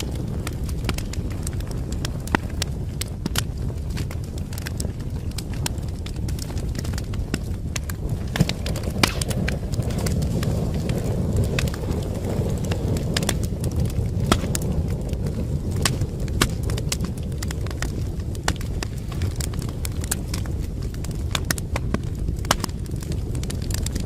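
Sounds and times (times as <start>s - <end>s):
low rumble of burning logs: 0.0s - 24.0s
wood fire crackling: 0.0s - 24.0s.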